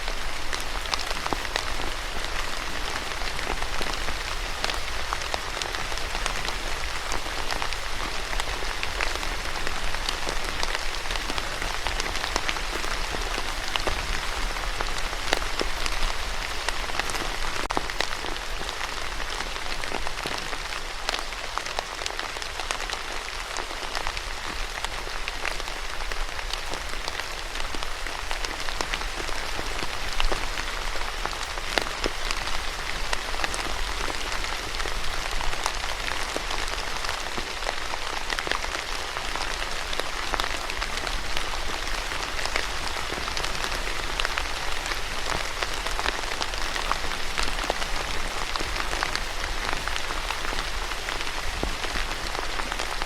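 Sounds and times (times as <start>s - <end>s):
steady rain pattering: 0.0s - 53.0s.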